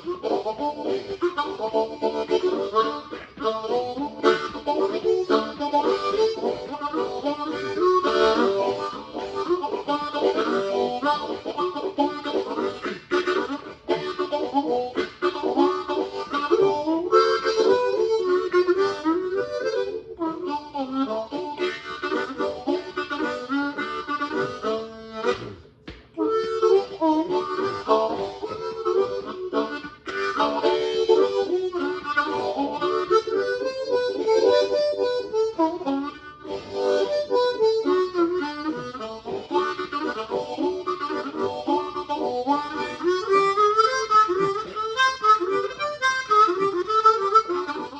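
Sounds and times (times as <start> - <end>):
harmonica playing: 0.0 - 47.9.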